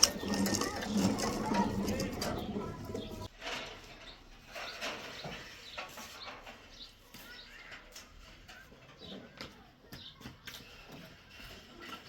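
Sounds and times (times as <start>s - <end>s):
birds chirping faintly: 0.0s - 10.8s.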